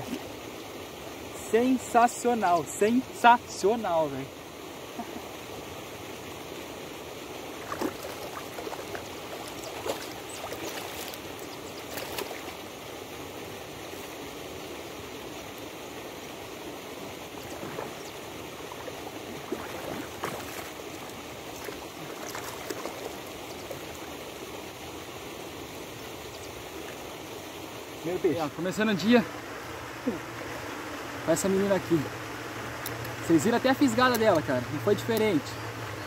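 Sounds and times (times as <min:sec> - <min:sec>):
water splashing from pond aerator: 0:00.0 - 0:36.0.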